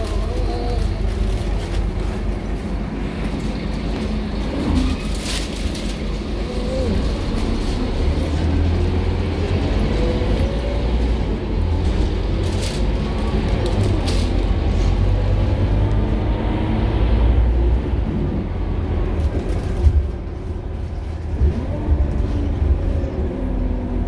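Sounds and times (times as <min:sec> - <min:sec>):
bus diesel engine rumble: 0:00.0 - 0:24.0
road noise: 0:00.0 - 0:24.0.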